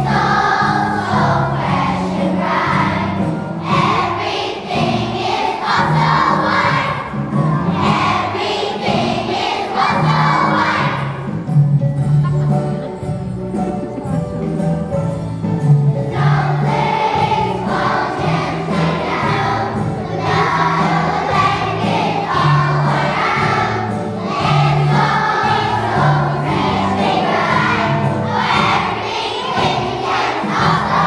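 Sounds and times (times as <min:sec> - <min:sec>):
children's choir singing: 0:00.0 - 0:11.7, 0:13.9 - 0:31.0.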